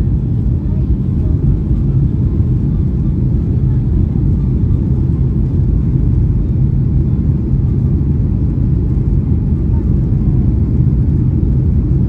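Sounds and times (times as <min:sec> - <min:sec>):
airliner low rumble: 0:00.0 - 0:12.0.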